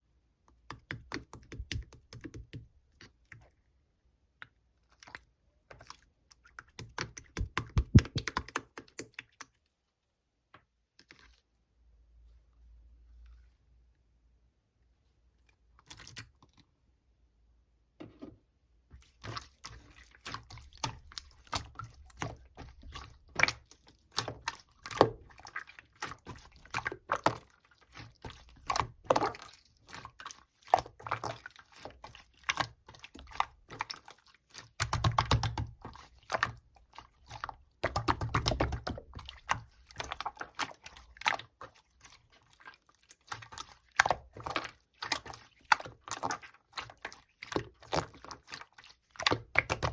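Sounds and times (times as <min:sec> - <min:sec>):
slime squelching: 0:00.5 - 0:09.8, 0:15.4 - 0:16.8, 0:18.9 - 0:49.9.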